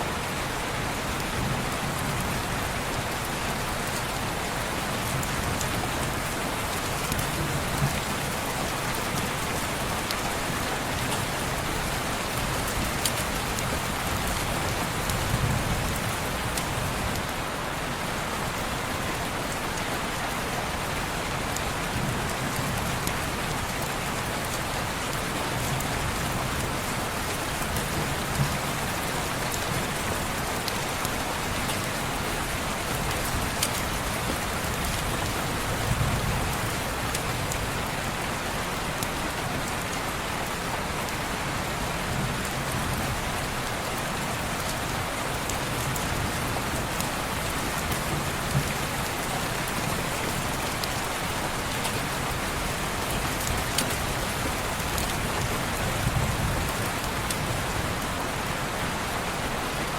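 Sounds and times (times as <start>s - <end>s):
rain pattering on a window: 0.1s - 59.9s.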